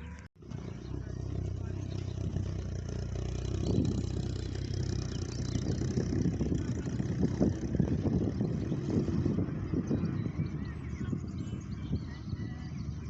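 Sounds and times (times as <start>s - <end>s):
car engine idling: 0.0s - 13.0s
uneven low rumble: 0.0s - 13.0s.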